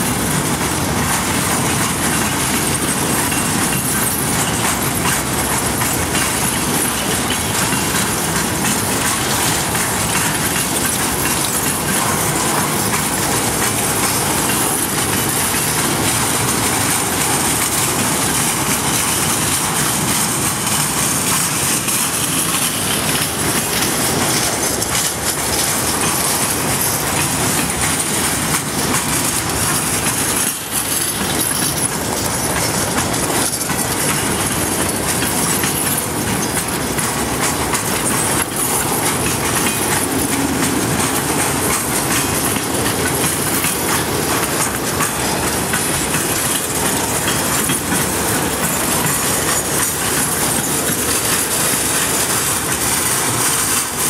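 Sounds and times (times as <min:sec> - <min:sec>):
train wheels rolling on rails: 0:00.0 - 0:54.0.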